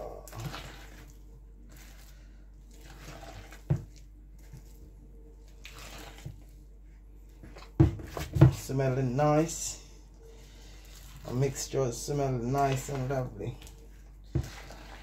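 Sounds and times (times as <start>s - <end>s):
batter squelching: 0.0s - 15.0s.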